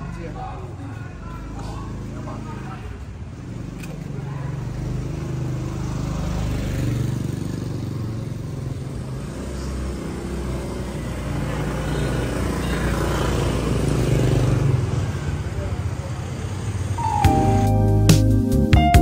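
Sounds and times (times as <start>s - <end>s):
motorbike engines: 0.0s - 19.0s
street traffic passing: 0.0s - 19.0s.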